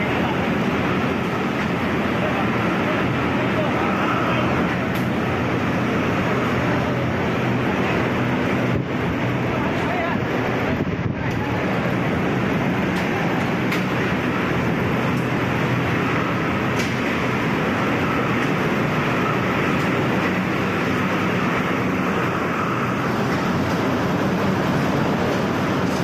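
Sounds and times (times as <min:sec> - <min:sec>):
vehicle running noise: 0:00.0 - 0:26.0.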